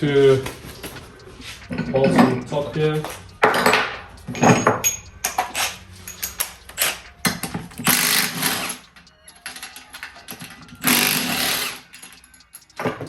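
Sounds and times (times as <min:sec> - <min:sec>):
tools clanking on metal: 0:00.4 - 0:10.8, 0:11.5 - 0:13.0.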